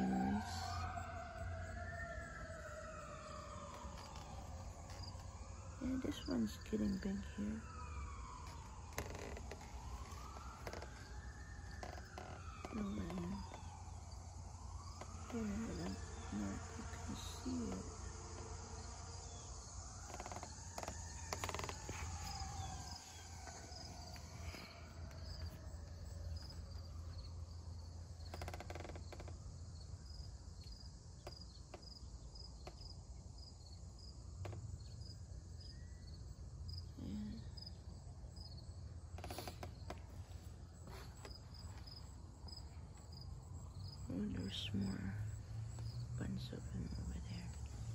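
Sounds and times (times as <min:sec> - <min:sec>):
faint siren wailing: 0:00.0 - 0:47.9
insects chirping: 0:00.0 - 0:47.9.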